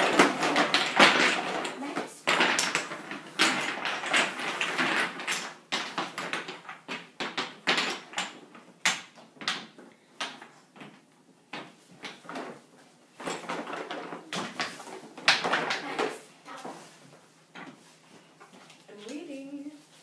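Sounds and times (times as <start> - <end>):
wooden toy blocks clacking: 0.0 - 16.9.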